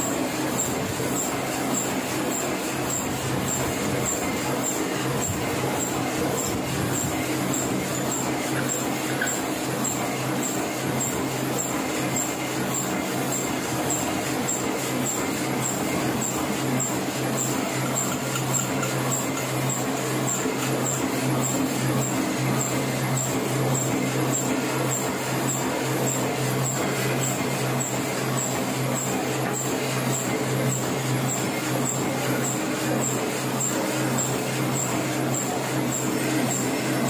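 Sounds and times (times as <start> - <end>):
printing press mechanical hum: 0.0 - 37.0.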